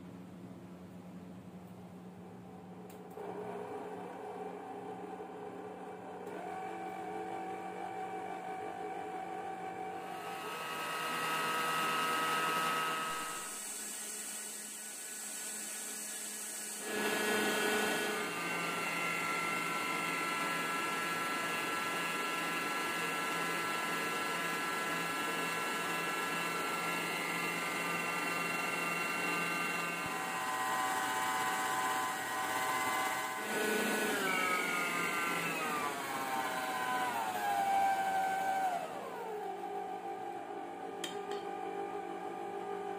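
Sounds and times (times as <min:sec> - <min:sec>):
stand mixer motor whining: 0:02.9 - 0:42.9.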